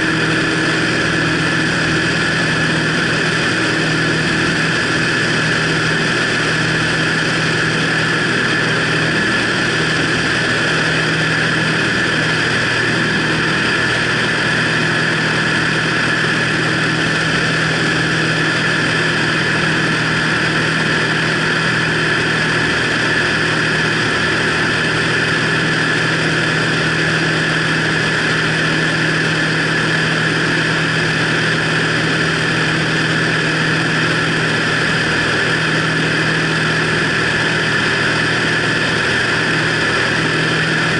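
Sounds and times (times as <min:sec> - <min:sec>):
light aircraft engine and propeller: 0:00.0 - 0:40.9.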